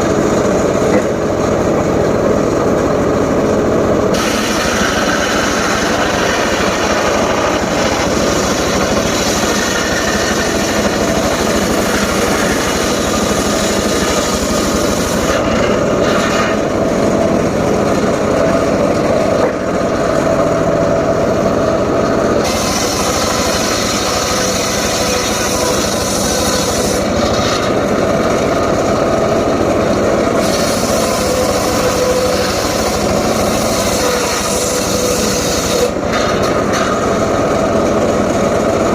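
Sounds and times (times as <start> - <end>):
circular saw cutting wood: 4.1 - 20.4, 22.3 - 38.9.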